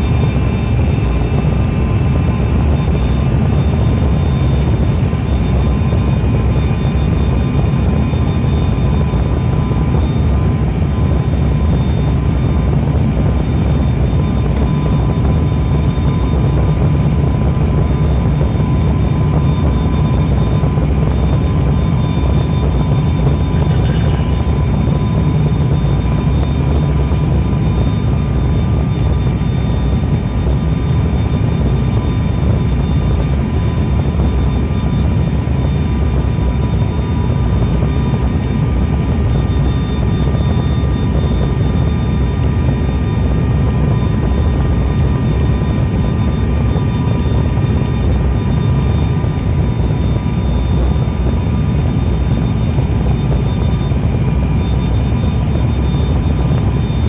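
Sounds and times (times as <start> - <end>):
propeller engine rumble in cabin: 0.0 - 57.0.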